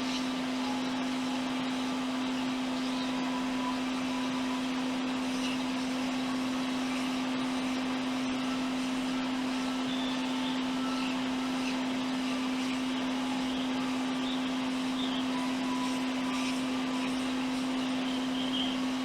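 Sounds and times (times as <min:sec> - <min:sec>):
hot air blower hissing: 0:00.0 - 0:19.0.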